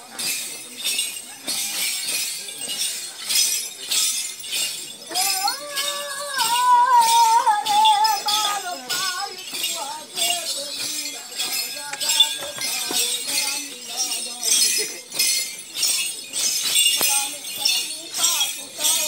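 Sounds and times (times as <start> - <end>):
steady crisp beat: 0.1 - 19.0.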